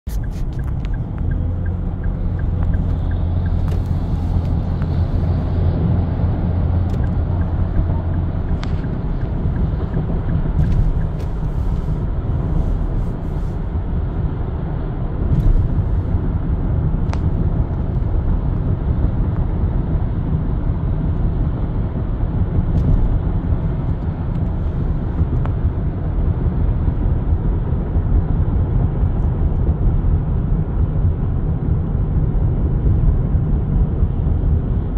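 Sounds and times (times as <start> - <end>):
car cabin road noise: 0.0 - 34.9.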